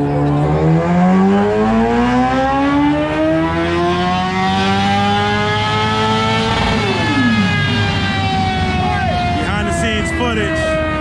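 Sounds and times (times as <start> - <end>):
vehicle engine revving up: 0.0 - 9.8.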